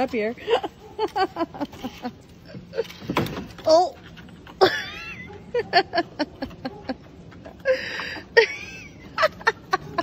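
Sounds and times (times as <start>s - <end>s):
person laughing: 0.4s - 3.2s, 4.5s - 10.0s.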